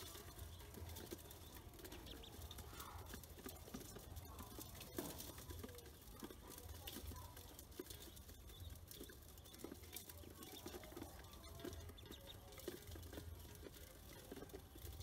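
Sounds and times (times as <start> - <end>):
ducklings pecking on metal basin: 0.0 - 15.0.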